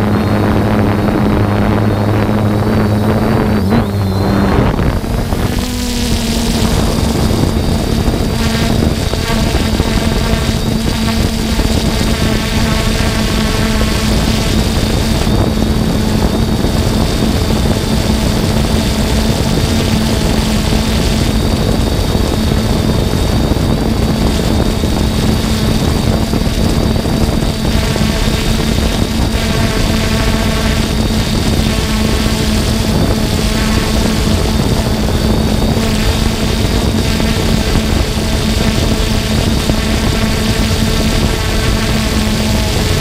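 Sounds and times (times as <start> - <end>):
drone propellers humming: 0.0 - 43.0.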